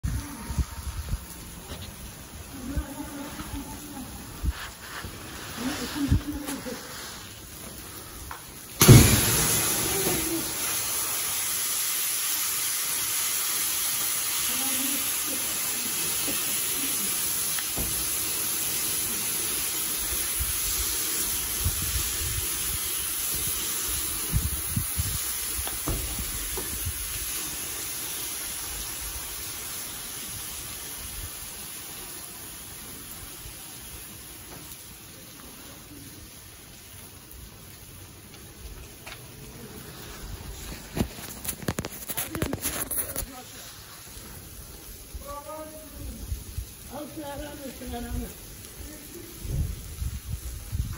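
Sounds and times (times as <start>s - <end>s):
fire hissing and crackling: 0.0s - 50.9s.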